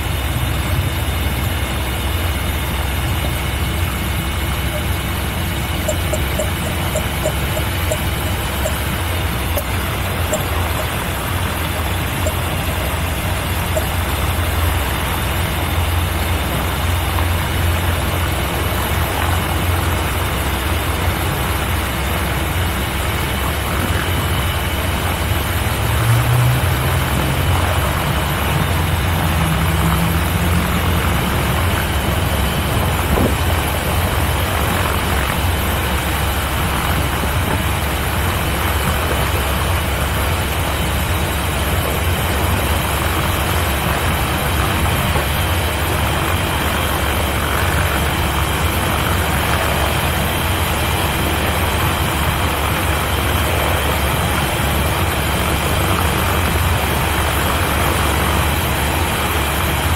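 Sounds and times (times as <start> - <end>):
propeller aircraft engine idling: 0.0 - 59.9.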